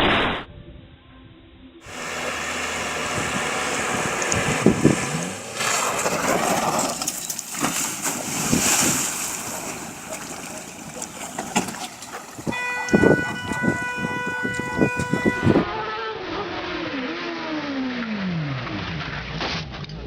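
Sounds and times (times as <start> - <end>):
road and wind noise: 1.8 - 20.0.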